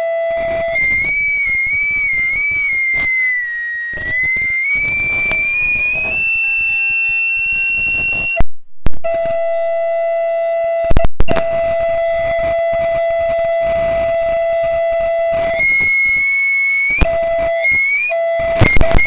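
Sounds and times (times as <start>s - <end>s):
audio feedback howl: 0.0s - 19.0s
lower steady tone: 0.0s - 19.0s.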